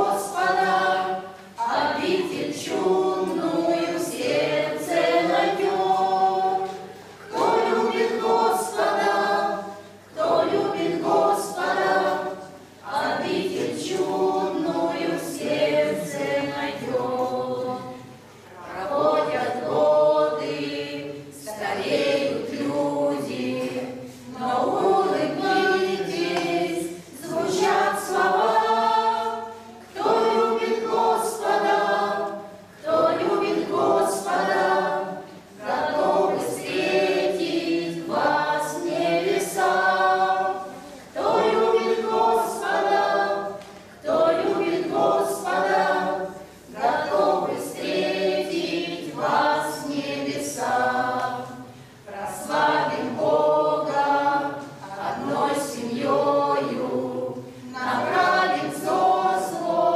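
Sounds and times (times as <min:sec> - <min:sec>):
choir singing a hymn a cappella: 0:00.0 - 0:59.9.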